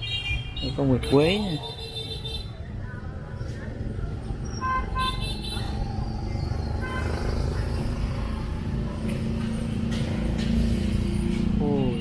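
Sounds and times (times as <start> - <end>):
rumble of passing traffic: 0.0 - 12.0.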